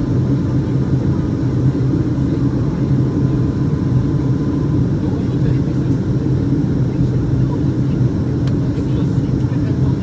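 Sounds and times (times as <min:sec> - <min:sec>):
jet engines droning in cabin: 0:00.0 - 0:10.0.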